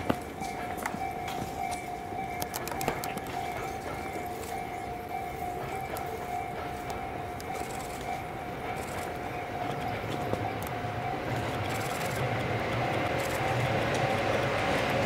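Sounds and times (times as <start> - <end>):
electric train running over points: 0.0 - 15.0
steady high tone: 0.0 - 15.0.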